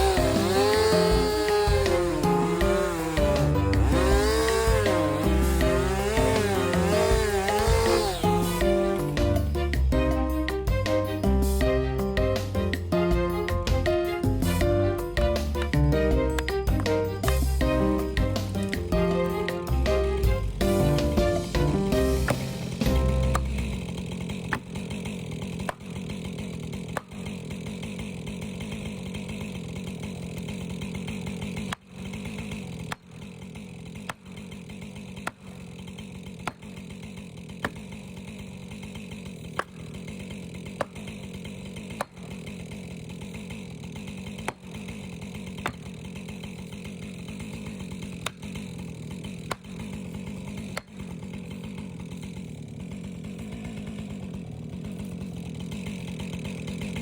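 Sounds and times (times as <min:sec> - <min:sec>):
chainsaw running under load: 0:00.0 - 0:57.0.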